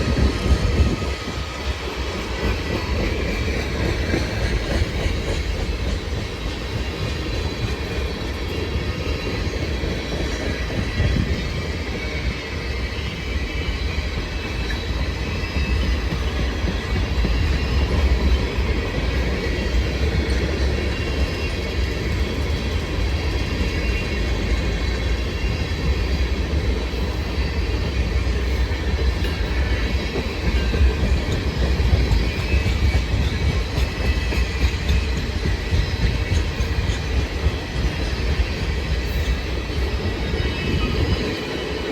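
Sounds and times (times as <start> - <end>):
freight train wheels rumbling: 0.0 - 41.9.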